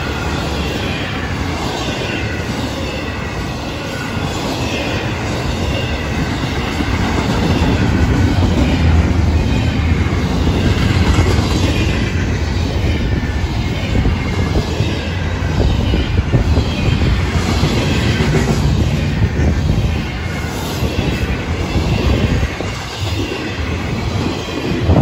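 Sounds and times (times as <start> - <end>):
freight train rolling past: 0.0 - 25.0.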